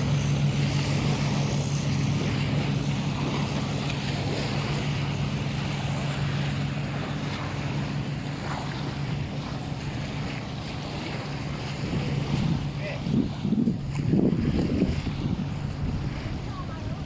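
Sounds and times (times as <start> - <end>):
boat engine humming: 0.0 - 17.0
surf: 0.0 - 17.0
wind: 0.0 - 17.0.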